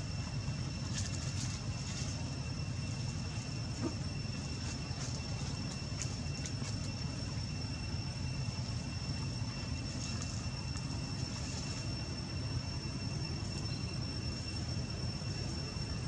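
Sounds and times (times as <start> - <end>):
high-pitched whine: 0.0 - 16.0.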